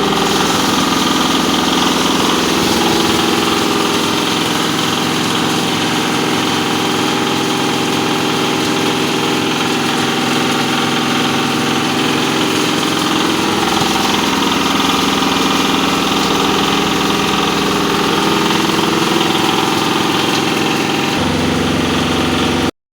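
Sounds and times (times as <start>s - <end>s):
grain mill machine drone: 0.0s - 22.7s.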